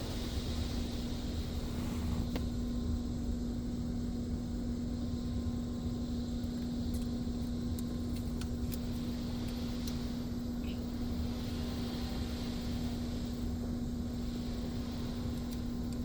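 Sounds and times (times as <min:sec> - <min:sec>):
car wash mechanical hum: 0:00.0 - 0:16.0.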